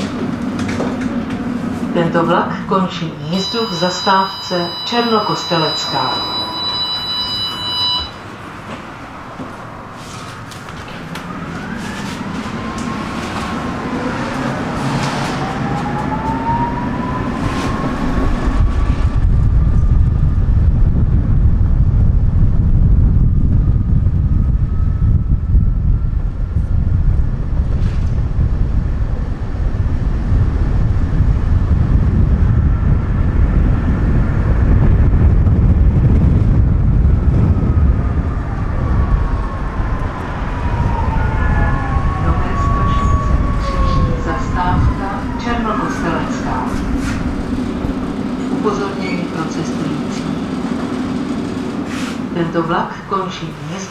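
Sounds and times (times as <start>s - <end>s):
tram motor whine: 0.0s - 53.9s
tram wheels rumbling on rails: 0.0s - 53.9s.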